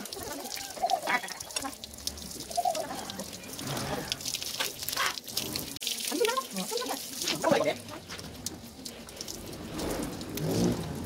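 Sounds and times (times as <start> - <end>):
hose water splashing: 0.0 - 11.0.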